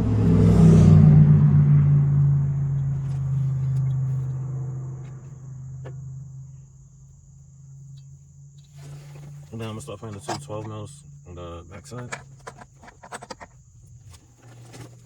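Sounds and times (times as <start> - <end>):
vehicle engine: 0.0 - 15.0
high insect trill: 2.6 - 15.0.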